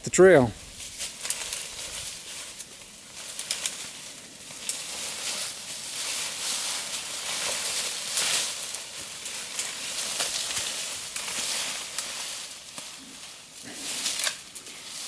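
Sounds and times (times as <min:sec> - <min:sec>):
branches and leaves rustling: 0:00.0 - 0:15.0
small twigs snapping: 0:00.8 - 0:15.0.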